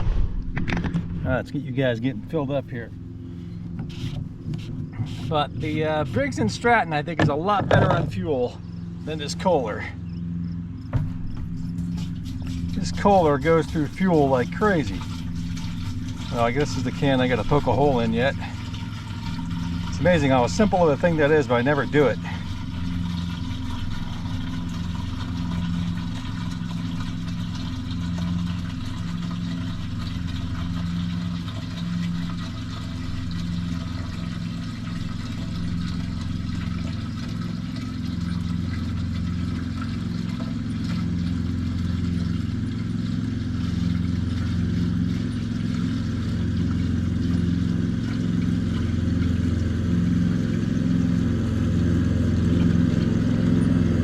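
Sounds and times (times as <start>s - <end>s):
lawn tractor engine idling: 1.3s - 54.0s.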